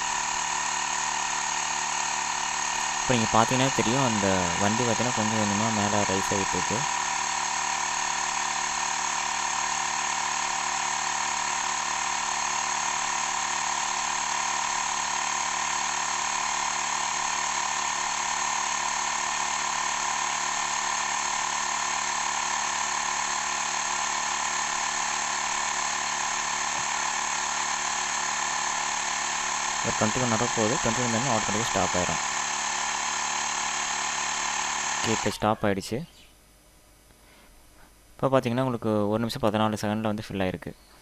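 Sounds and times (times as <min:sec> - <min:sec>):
electric air compressor running: 0:00.0 - 0:35.4.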